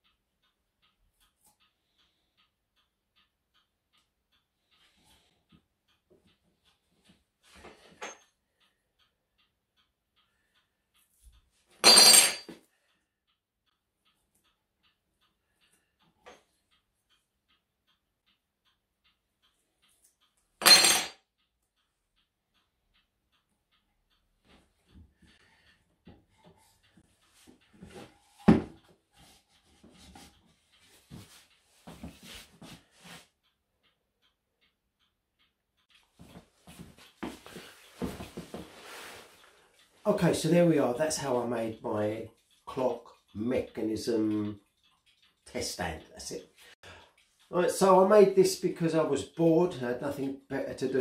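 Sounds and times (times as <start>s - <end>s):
clock ticking: 0.0s - 11.8s, 12.5s - 51.0s.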